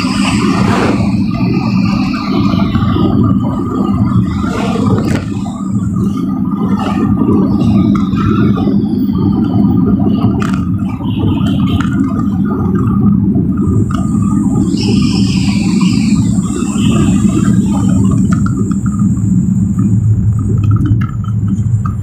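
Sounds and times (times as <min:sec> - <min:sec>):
low engine drone: 0:00.0 - 0:22.0
road rumble: 0:00.0 - 0:22.0.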